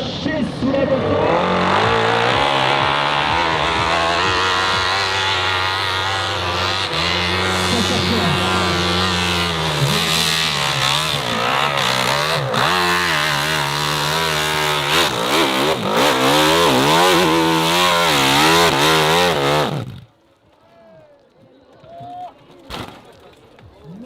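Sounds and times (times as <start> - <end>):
off-road motorcycle engine revving: 0.0 - 20.2.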